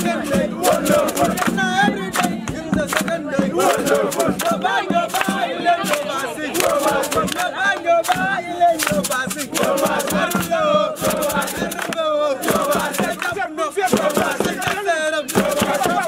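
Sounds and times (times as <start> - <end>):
crowd chanting and singing: 0.0 - 16.0
sharp percussive hits: 0.0 - 16.0.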